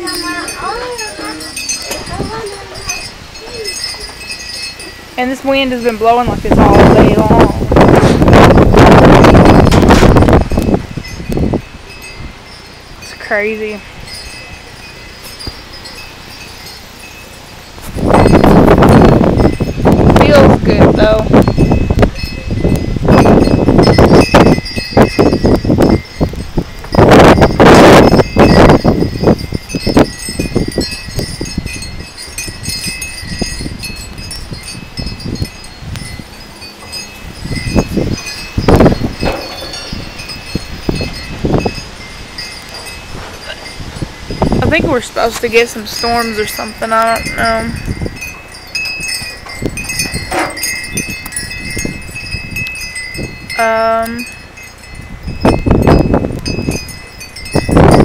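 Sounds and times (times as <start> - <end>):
wind buffeting microphone: 0.0 - 58.0
wind chimes ringing: 0.0 - 58.0.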